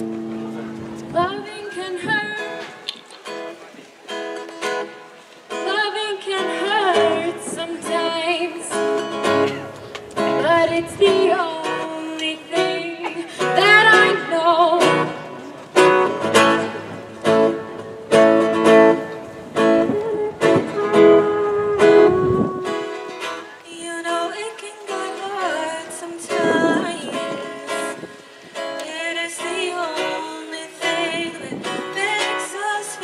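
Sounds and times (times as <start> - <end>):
strummed instrumental accompaniment: 0.0 - 33.0.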